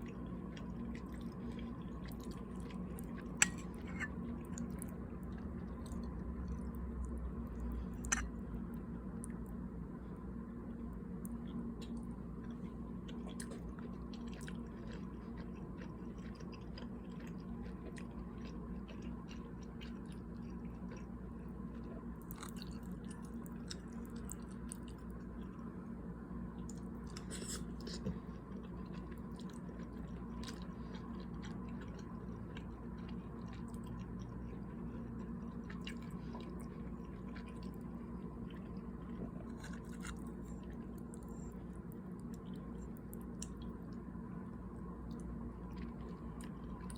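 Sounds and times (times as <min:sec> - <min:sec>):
person chewing food: 0:00.0 - 0:09.6, 0:10.7 - 0:25.7, 0:26.5 - 0:44.1, 0:45.0 - 0:46.9
low background hum: 0:00.0 - 0:46.9.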